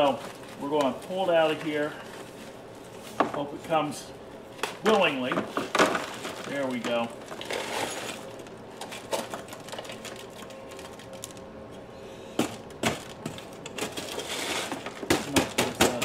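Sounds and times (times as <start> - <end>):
potting mix clicks and crackles: 0.0 - 16.0.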